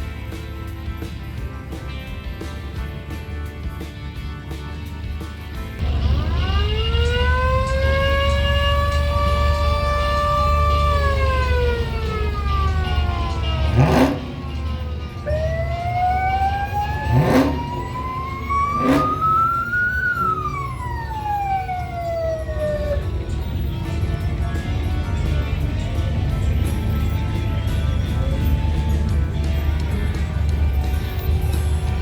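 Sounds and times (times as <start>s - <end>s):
low rumble of vehicle engines: 0.0s - 32.0s
siren winding up and down: 5.8s - 32.0s.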